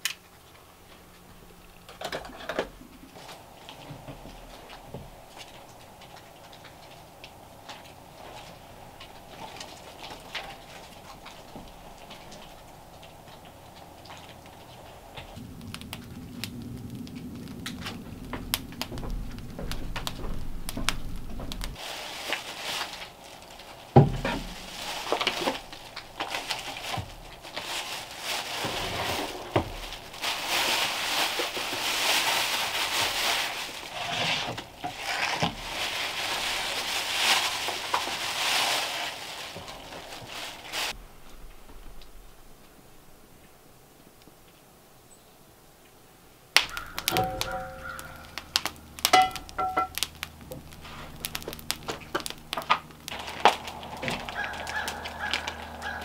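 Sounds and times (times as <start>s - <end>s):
steady low hum: 0.2s - 32.1s, 40.0s - 56.0s
plastic bag rustling: 0.9s - 42.6s, 46.7s - 56.0s.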